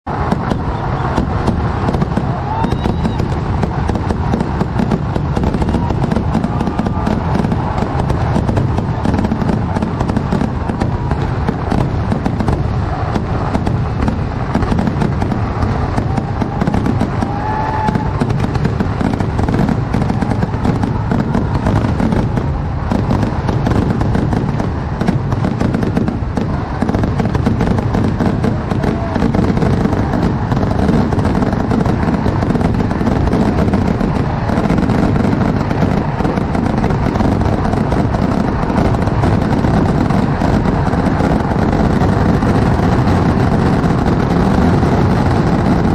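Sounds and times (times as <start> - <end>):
fireworks bangs and crackling: 0.0 - 45.9
firework whistles: 0.1 - 45.9.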